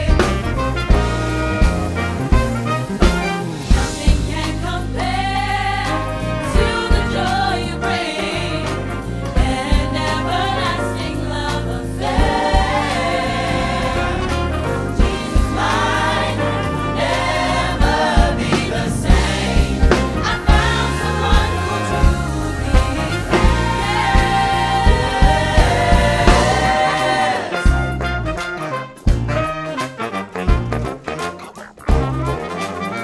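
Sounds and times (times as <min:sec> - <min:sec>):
gospel choir singing: 0:00.0 - 0:29.0
live band playing: 0:00.0 - 0:33.0.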